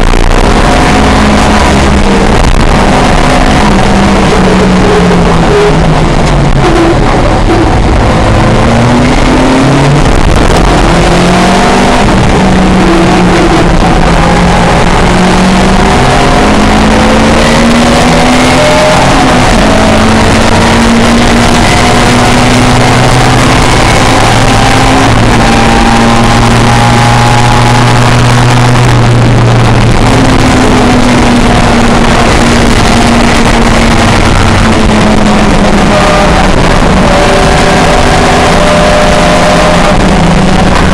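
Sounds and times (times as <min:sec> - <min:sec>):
loud rushing noise: 0:00.0 - 0:40.9
racing car engine revving: 0:00.0 - 0:40.9.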